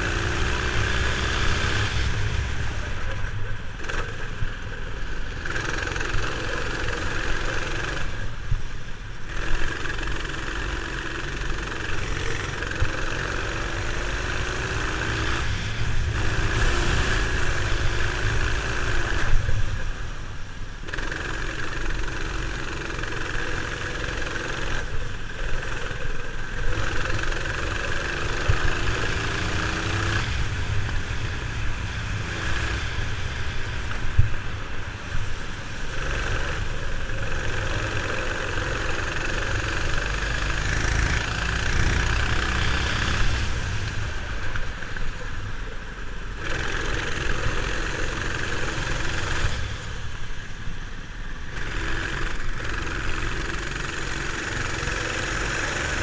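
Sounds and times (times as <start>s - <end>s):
go-kart engine under throttle: 0.0s - 56.0s
wet tyre and road noise: 0.0s - 56.0s.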